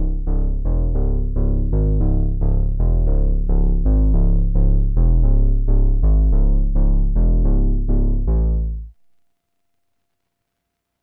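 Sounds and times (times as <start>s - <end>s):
synthesizer bass notes: 0.0s - 9.0s.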